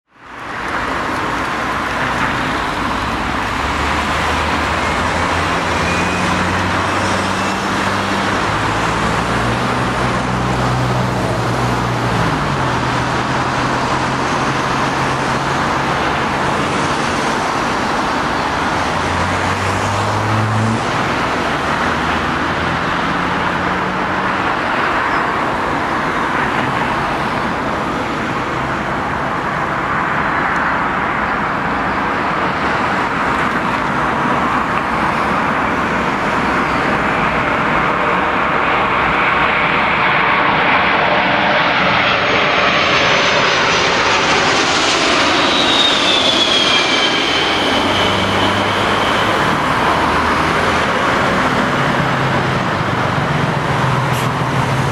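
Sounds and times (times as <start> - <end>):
road traffic noise: 0.0 - 54.9
vehicle engine: 0.4 - 54.9.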